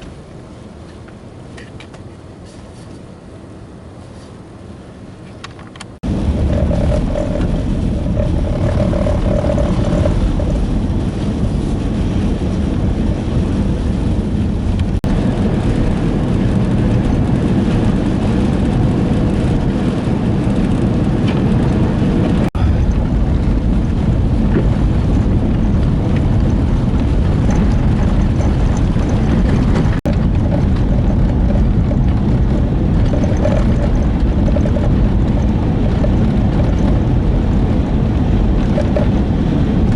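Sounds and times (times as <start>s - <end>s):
vehicle running noise: 0.0s - 39.9s
strong blizzard wind: 3.1s - 39.9s.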